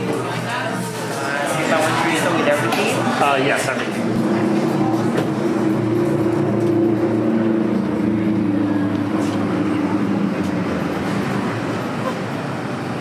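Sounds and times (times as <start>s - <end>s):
vehicle engine humming: 1.4s - 13.0s.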